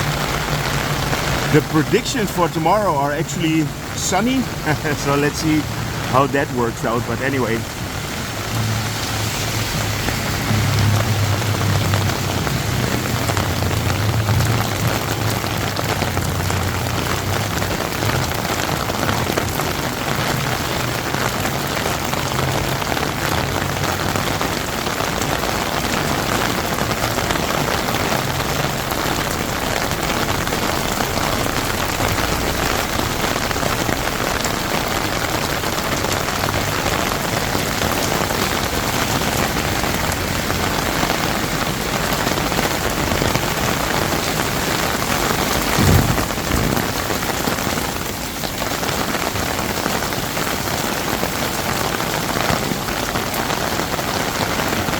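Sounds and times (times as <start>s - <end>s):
rain on flooded street: 0.0s - 54.9s.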